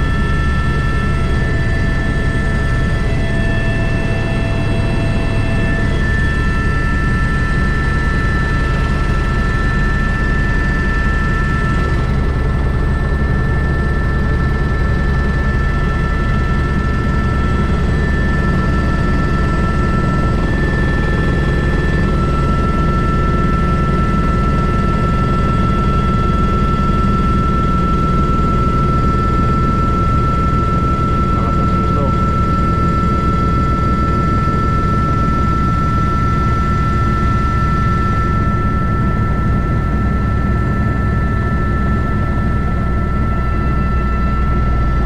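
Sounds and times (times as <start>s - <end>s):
helicopter rotor thrum: 0.0s - 45.0s
turbine whine: 0.0s - 45.0s.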